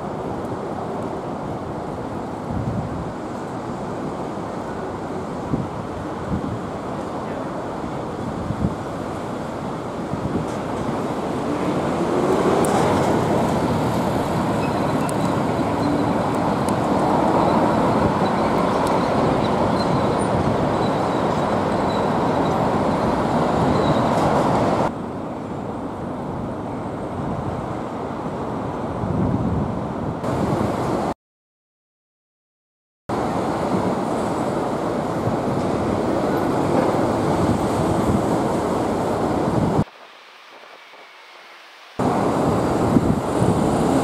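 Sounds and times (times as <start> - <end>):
road traffic passing: 0.0 - 29.2, 33.1 - 44.0.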